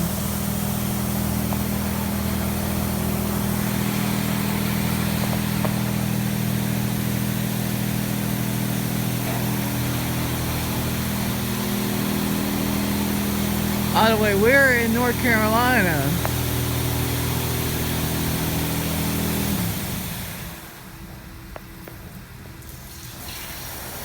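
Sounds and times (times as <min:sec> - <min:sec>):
blower motor hum: 0:00.0 - 0:24.0.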